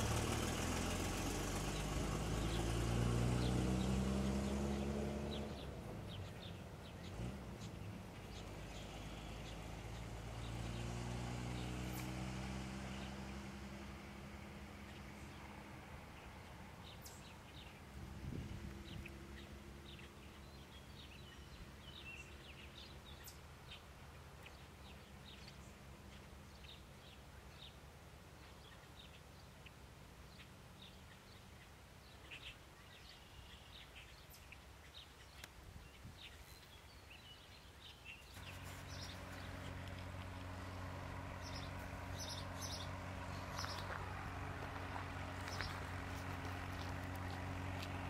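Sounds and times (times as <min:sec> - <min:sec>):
distant tractor engines humming: 0:00.0 - 0:35.6, 0:36.2 - 0:48.0
birds chirping: 0:00.0 - 0:48.0.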